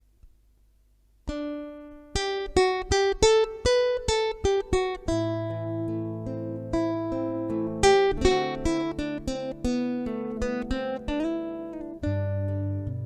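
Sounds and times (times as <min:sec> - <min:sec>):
guitar notes picked: 0:01.3 - 0:13.0.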